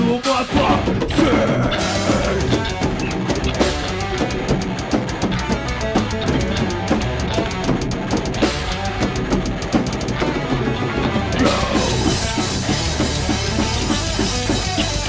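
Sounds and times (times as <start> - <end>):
bass guitar: 0.0 - 15.0
drum kit: 0.0 - 15.0
electric guitar: 0.0 - 15.0.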